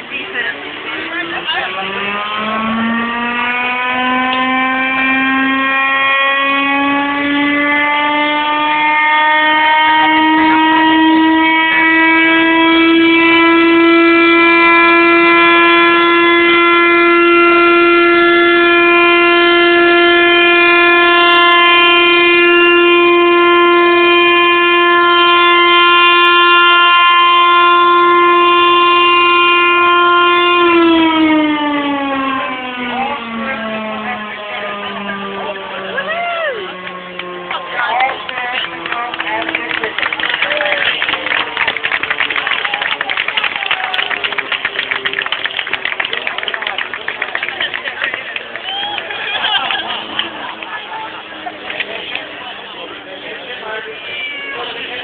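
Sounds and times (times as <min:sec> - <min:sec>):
air-raid siren wailing: 0:00.6 - 0:52.6.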